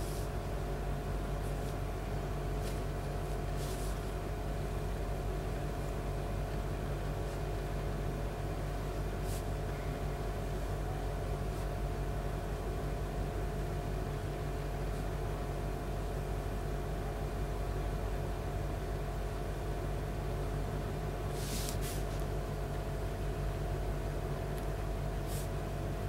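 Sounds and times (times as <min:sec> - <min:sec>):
steady machine hum with tones: 0:00.0 - 0:26.0.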